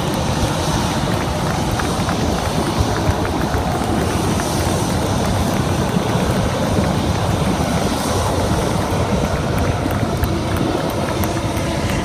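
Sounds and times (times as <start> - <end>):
aircraft engine flying over: 0.0 - 12.0.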